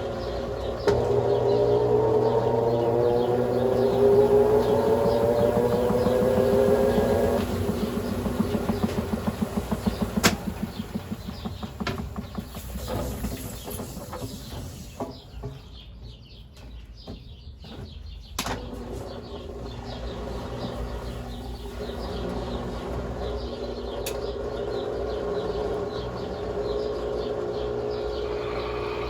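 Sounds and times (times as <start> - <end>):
washing machine running: 0.0 - 15.3, 18.4 - 29.0.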